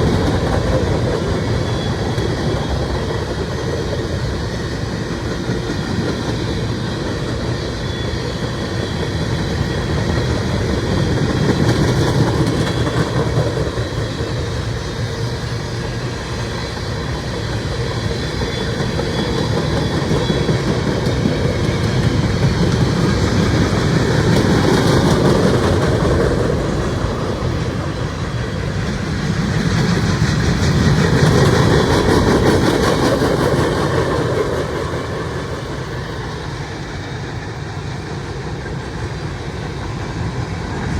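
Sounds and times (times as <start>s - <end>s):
freight train wheels clicking: 0.0s - 40.9s.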